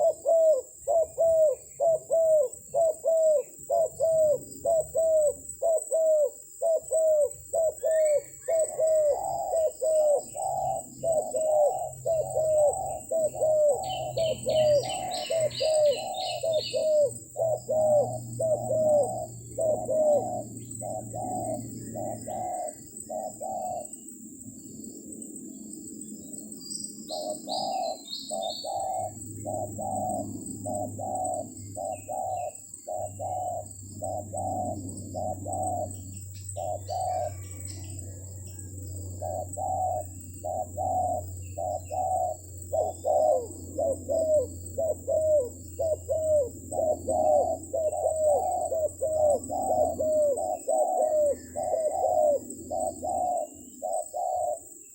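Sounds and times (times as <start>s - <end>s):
doves cooing: 0.0s - 24.1s, 27.0s - 54.9s
small bird chirping: 0.0s - 54.9s.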